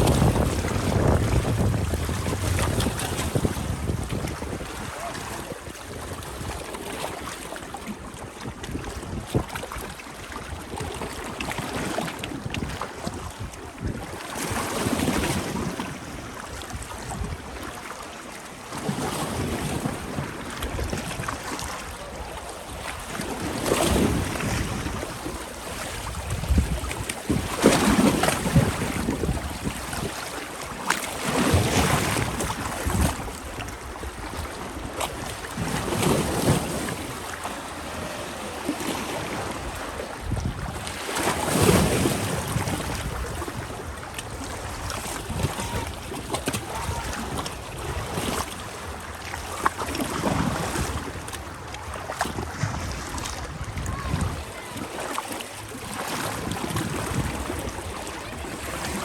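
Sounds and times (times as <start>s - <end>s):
small waves washing onto beach: 0.0s - 59.0s.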